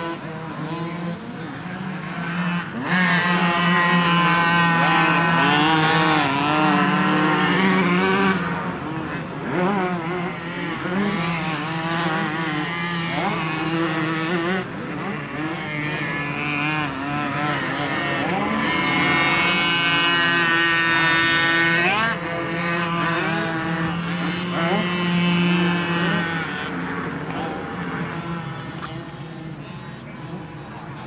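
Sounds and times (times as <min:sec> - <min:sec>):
motocross bikes revving: 0:00.0 - 0:31.0.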